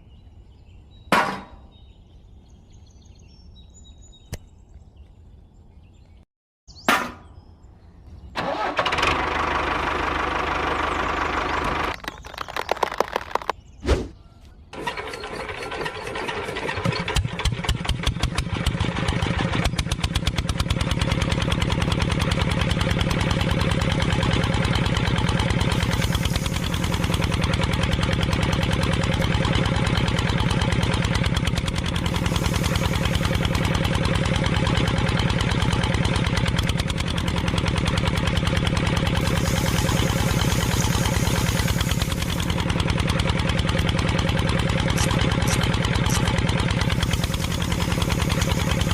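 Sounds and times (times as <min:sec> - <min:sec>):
small motor rattling: 0:08.4 - 0:13.5, 0:14.8 - 0:48.9.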